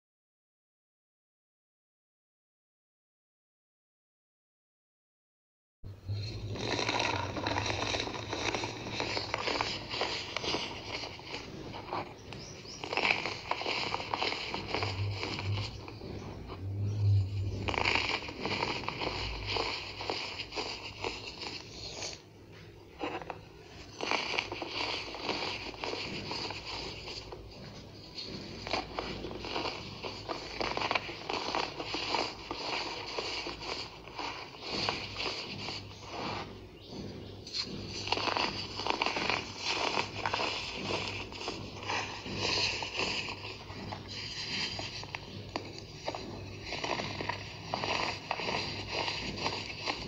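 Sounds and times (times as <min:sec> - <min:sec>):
powder scraping on tabletop: 0:06.0 - 0:50.0
baking soda crunching: 0:06.1 - 0:16.3, 0:17.0 - 0:22.2, 0:22.8 - 0:36.9, 0:37.5 - 0:50.0.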